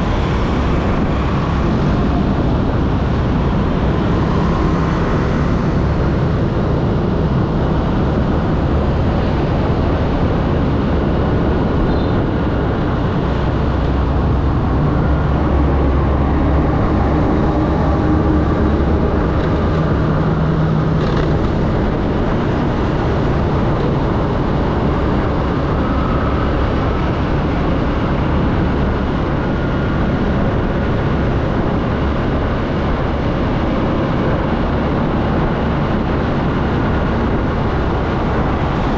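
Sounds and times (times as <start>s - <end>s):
hum of motorbike traffic: 0.0s - 38.9s.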